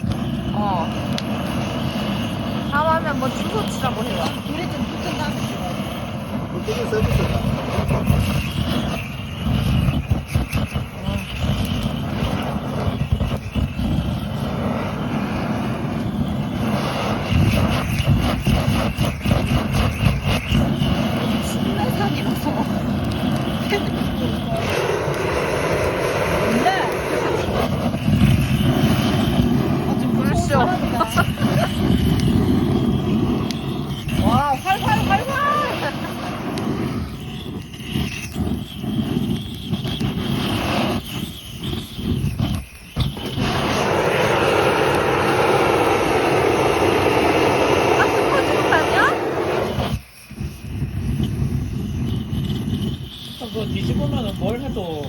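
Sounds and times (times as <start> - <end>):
firewood crackling: 0.0 - 55.0
gas torch flame: 0.0 - 55.0.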